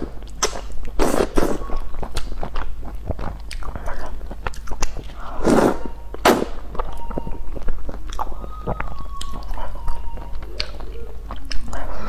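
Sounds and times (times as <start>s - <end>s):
noodles slurping: 0.0s - 12.0s
wet chewing and lip-smacking: 0.0s - 12.0s.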